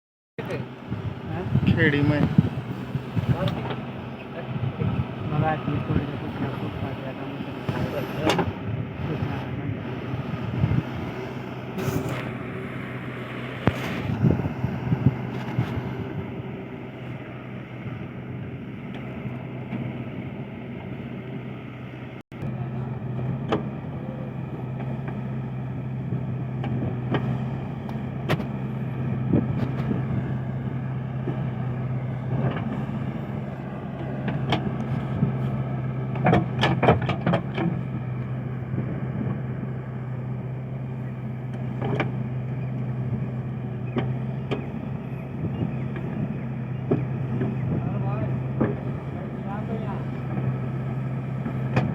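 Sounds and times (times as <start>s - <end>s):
diesel engine running: 0.4s - 51.9s.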